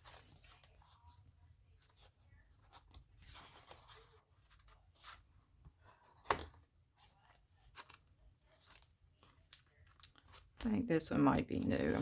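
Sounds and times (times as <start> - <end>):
paper pages turning: 0.0 - 10.6.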